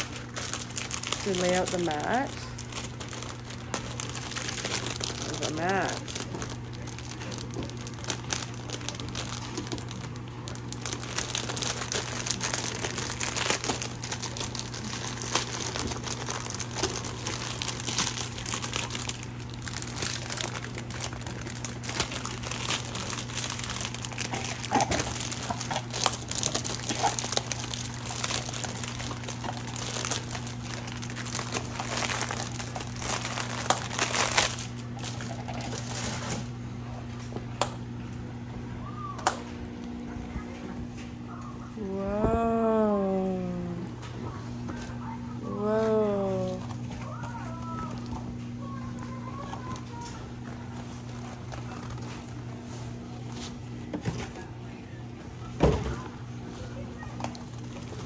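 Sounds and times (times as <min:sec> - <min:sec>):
packaging crinkling and rustling: 0:00.0 - 0:37.4, 0:46.1 - 0:54.5, 0:56.0 - 0:58.0
low steady hum: 0:00.0 - 0:58.0.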